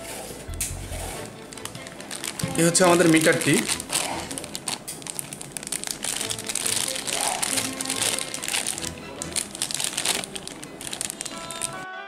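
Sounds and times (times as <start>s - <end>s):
faint music: 0.0s - 12.0s
plastic bag crinkling: 1.0s - 11.8s.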